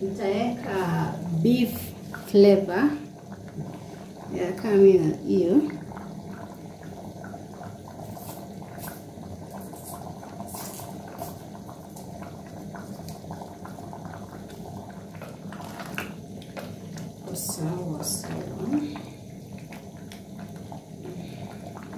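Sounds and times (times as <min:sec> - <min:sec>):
stew bubbling and popping: 0:00.0 - 0:21.9.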